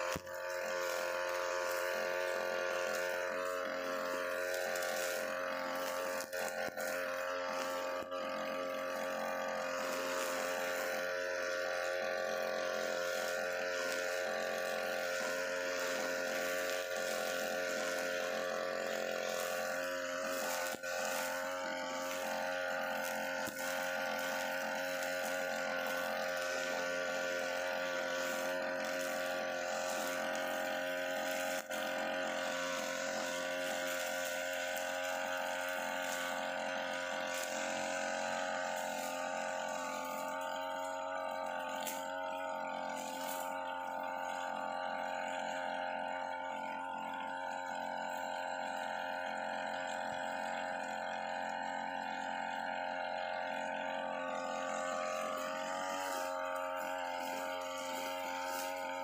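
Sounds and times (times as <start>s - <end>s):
brushcutter cutting grass: 0.0s - 59.0s.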